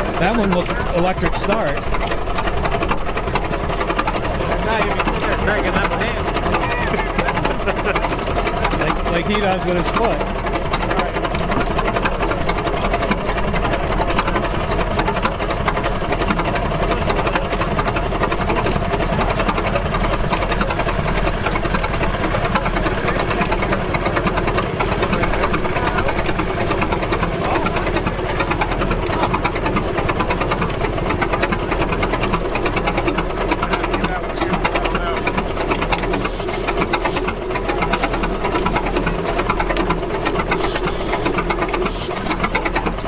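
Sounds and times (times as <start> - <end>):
gas engine clattering: 0.0 - 43.0.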